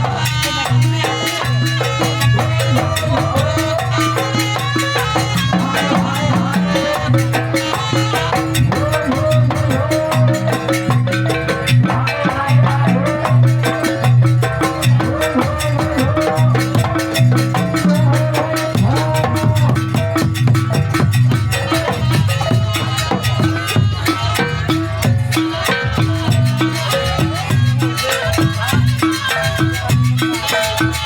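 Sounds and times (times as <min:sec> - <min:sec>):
drums and gamelan percussion: 0:00.0 - 0:31.0.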